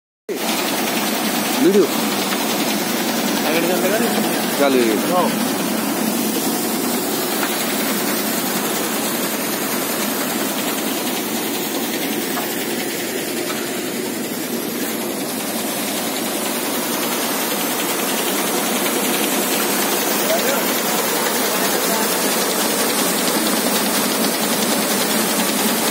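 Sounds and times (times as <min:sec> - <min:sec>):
threshing machine running: 0:00.3 - 0:25.9.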